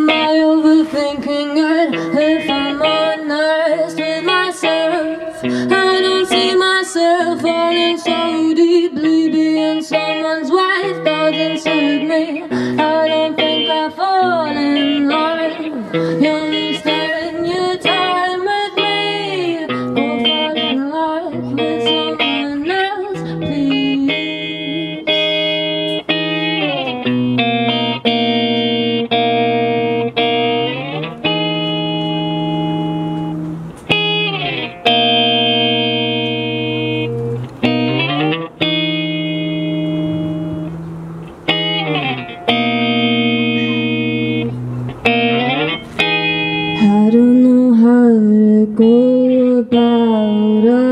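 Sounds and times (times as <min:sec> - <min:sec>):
guitar playing: 0:00.0 - 0:50.9.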